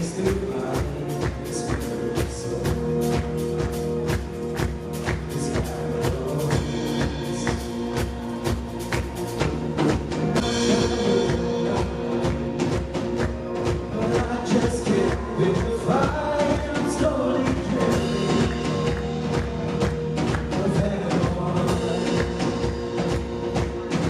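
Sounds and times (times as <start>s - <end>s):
drum kit beat: 0.0s - 24.0s
worship band playing: 0.0s - 24.0s.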